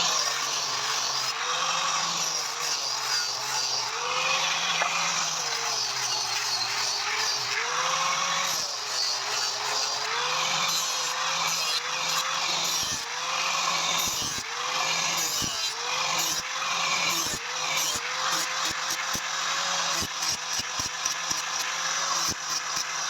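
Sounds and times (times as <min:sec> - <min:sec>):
power tool grinding metal: 0:00.0 - 0:23.0.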